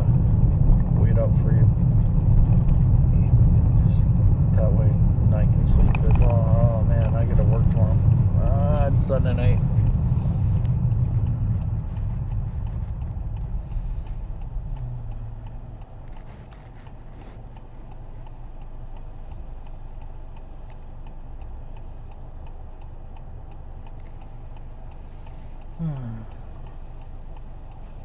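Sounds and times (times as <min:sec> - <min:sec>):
car engine and road rumble: 0:00.0 - 0:28.0
turn signal ticking: 0:00.0 - 0:28.0.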